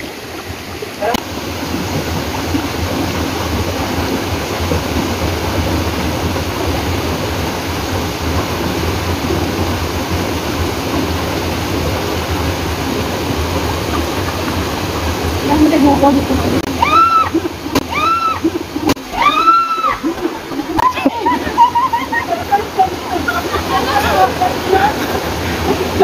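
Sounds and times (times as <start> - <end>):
stream rushing over boulders: 0.0 - 26.0.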